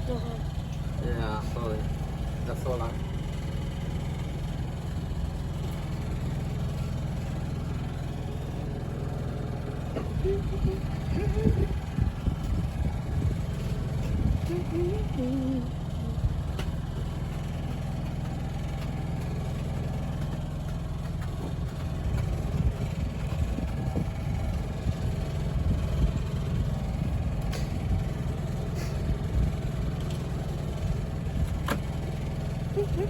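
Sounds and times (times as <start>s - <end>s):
motor droning: 0.0s - 33.0s.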